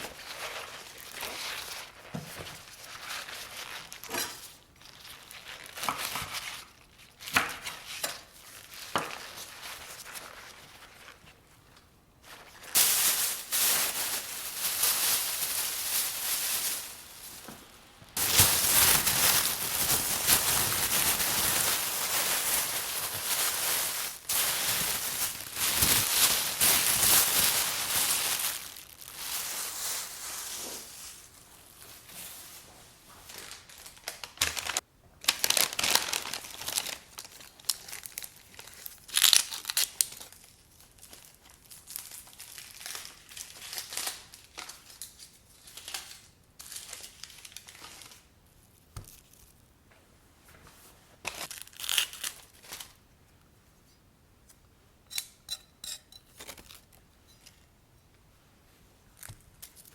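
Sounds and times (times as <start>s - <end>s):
crinkly wrapping rustling: 0.0s - 49.6s, 51.2s - 53.0s.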